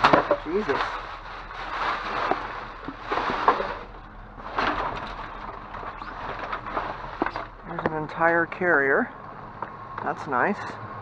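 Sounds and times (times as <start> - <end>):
trash bags rustling: 0.0 - 11.0.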